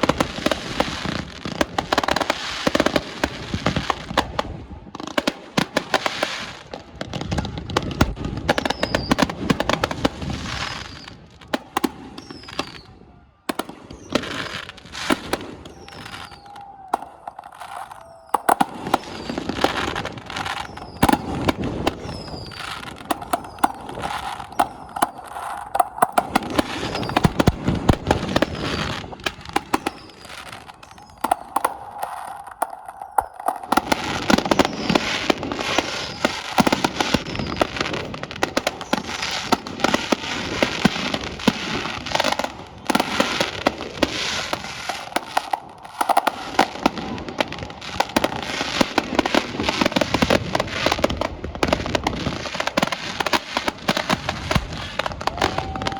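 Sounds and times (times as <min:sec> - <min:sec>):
fireworks bangs and pops: 0:00.0 - 0:55.9
fireworks crackling: 0:00.0 - 0:55.9.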